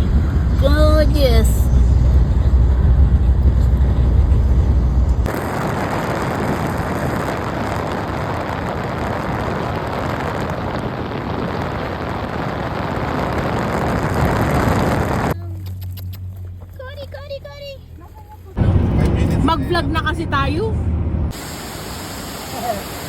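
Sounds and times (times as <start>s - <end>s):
car road noise: 0.0s - 23.0s.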